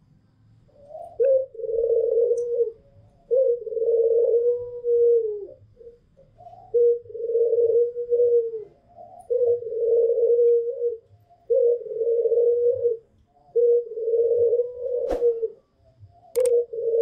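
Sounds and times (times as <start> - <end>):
doves cooing: 0.7 - 15.6, 16.2 - 17.0.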